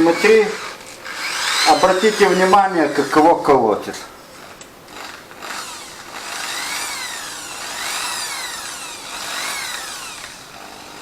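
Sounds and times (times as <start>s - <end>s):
electric drill motor whine: 0.0s - 3.5s, 4.3s - 11.0s.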